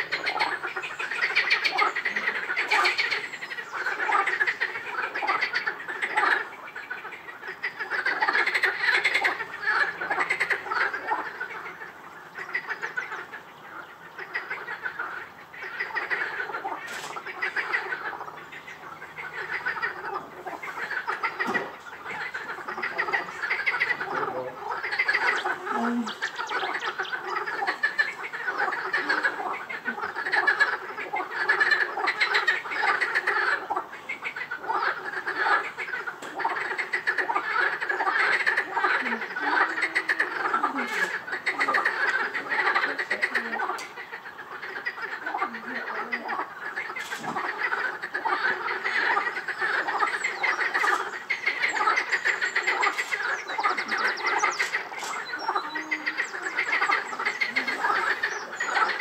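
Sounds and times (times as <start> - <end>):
frogs croaking in chorus: 0.0 - 59.0.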